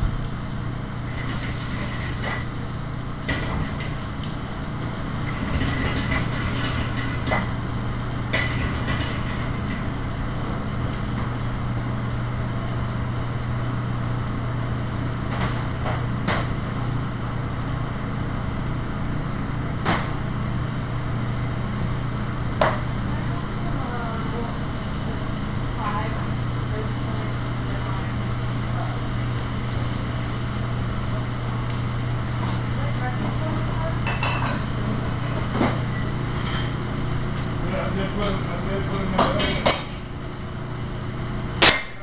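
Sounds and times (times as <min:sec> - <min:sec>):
exhaust fan humming: 0:00.0 - 0:42.0.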